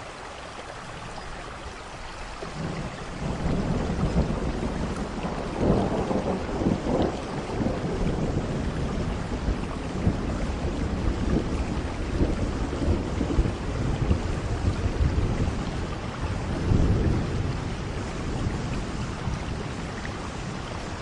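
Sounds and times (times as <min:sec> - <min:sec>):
steady rain: 0:00.0 - 0:21.0
rumble of thunder: 0:02.4 - 0:21.0.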